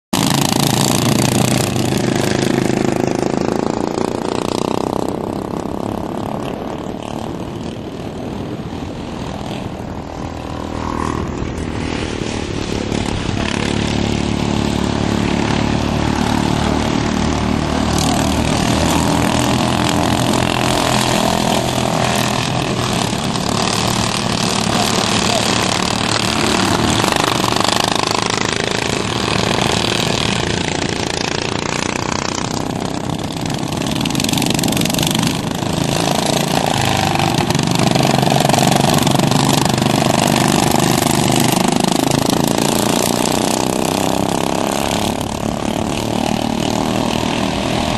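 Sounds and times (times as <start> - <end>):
lawn mower engines racing: 0.2 - 47.9.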